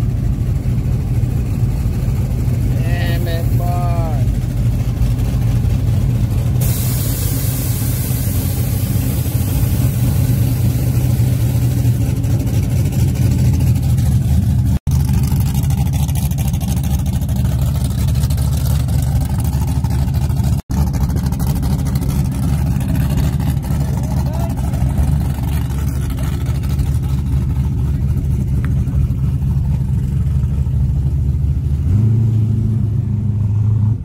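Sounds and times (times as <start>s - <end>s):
pickup truck engines rumbling: 0.0s - 34.0s.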